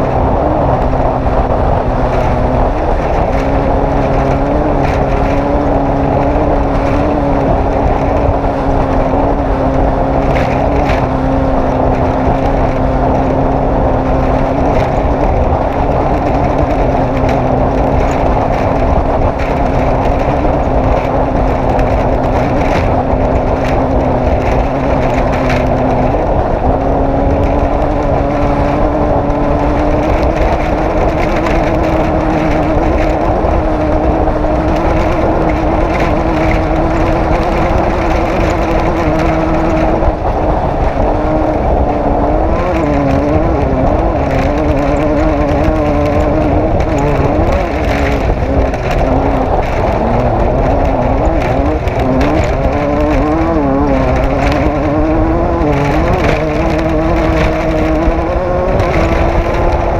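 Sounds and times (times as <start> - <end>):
race vehicle engine running: 0.0 - 59.9.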